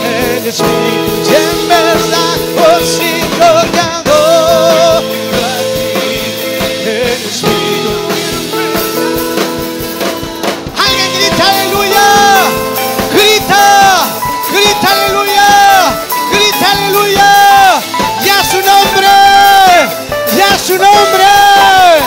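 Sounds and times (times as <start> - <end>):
voices singing with vibrato: 0.0 - 9.0, 10.0 - 22.0
band with guitar playing: 0.0 - 22.0.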